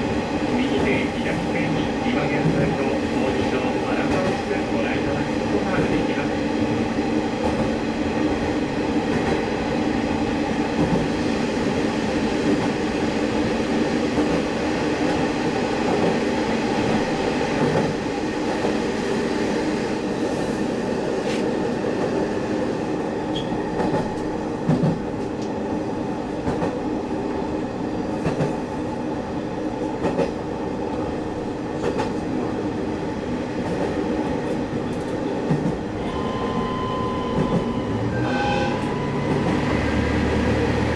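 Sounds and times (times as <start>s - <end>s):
railcar engine and running rumble: 0.0s - 40.9s.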